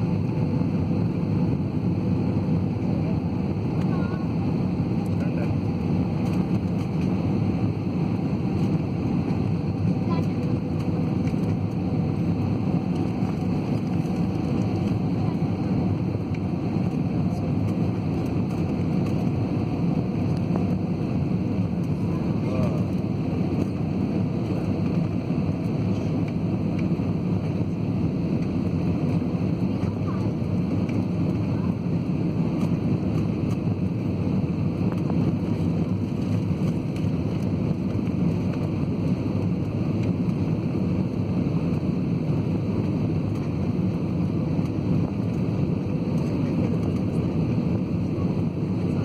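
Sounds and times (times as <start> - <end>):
airliner cabin engine roar: 0.0 - 49.0.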